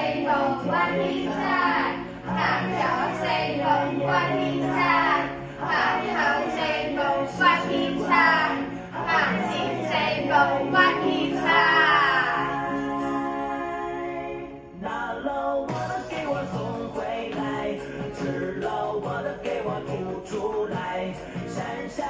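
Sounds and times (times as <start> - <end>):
backing track: 0.0 - 22.0
voices singing pop song: 0.0 - 22.0.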